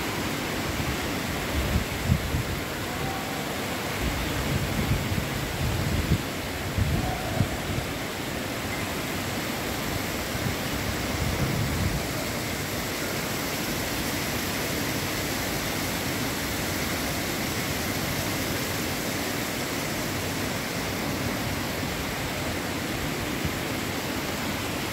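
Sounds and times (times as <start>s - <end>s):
water rushing over cascade: 0.0s - 24.9s.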